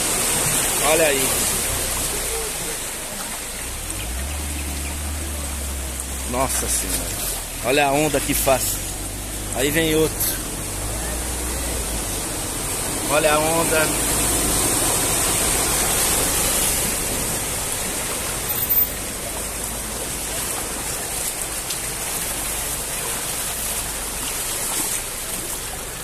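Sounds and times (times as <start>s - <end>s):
car splashing through floodwater: 0.0s - 26.0s.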